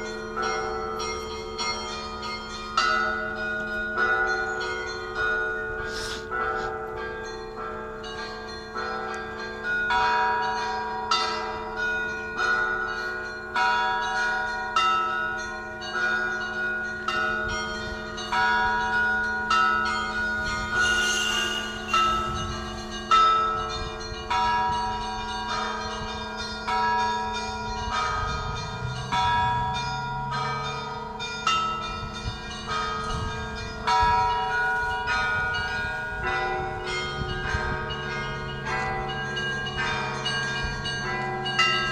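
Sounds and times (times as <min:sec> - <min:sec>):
church bells ringing in rhythm: 0:00.0 - 0:41.9
deep bell: 0:00.0 - 0:41.9
large bell humming: 0:00.0 - 0:41.9.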